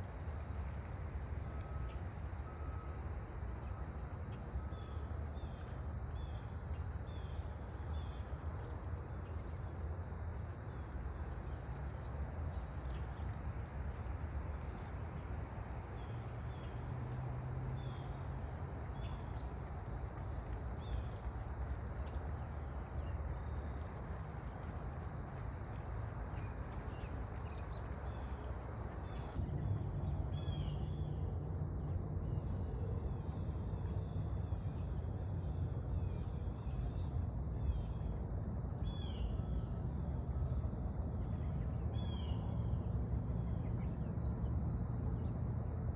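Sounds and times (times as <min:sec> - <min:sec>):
crickets chirping: 0:00.0 - 0:45.9.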